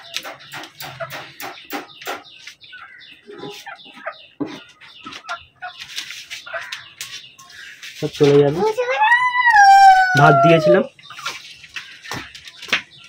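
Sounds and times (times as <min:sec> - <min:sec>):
hens clucking: 0:00.0 - 0:12.6.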